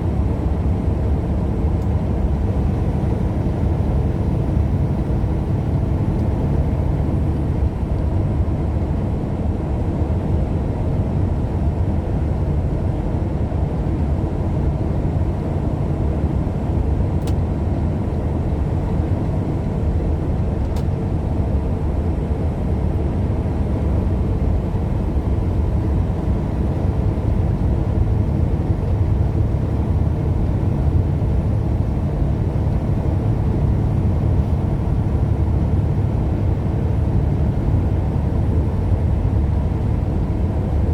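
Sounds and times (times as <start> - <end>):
vehicle road and engine noise: 0.0 - 40.9.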